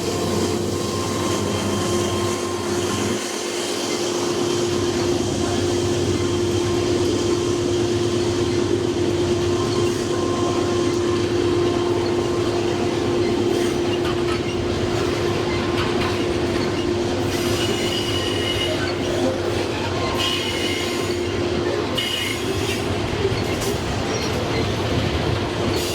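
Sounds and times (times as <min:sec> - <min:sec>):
freight train rolling past: 0:00.0 - 0:25.9.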